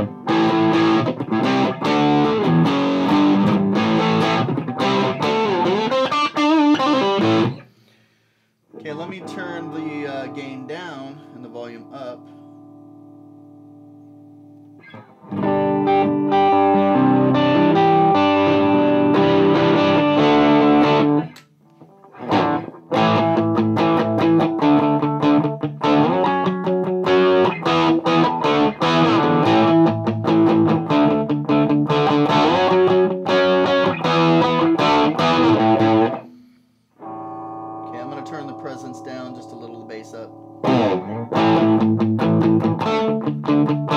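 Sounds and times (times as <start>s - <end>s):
overdriven electric guitar: 0.0s - 8.0s, 8.7s - 43.9s.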